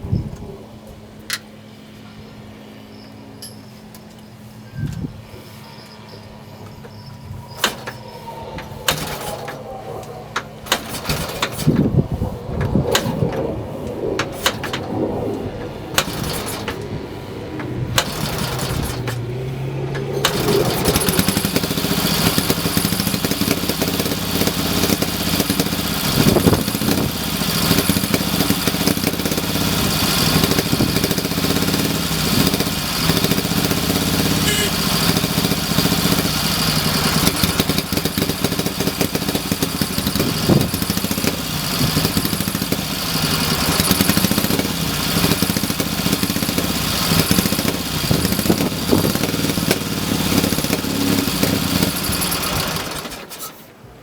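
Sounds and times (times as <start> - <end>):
motorcycle engine running unevenly: 0.3 - 53.3
motorcycle engine starting: 3.1 - 54.0
engine knocks: 6.3 - 53.5.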